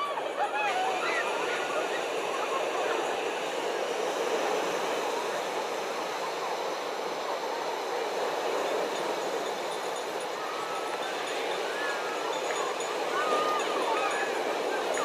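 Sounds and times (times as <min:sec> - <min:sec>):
murmur of distant voices: 0:00.0 - 0:15.0
surf wash: 0:00.0 - 0:15.0.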